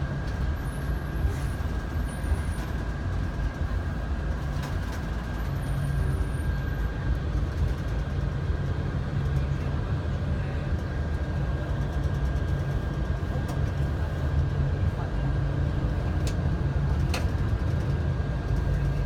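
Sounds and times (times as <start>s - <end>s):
vehicle rumble from inside: 0.0s - 19.0s.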